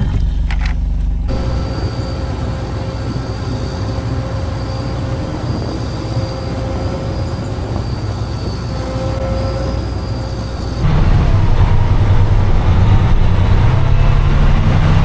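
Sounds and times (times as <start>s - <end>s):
faint steady whine: 0.0s - 14.6s
vehicle engine running: 0.0s - 15.0s.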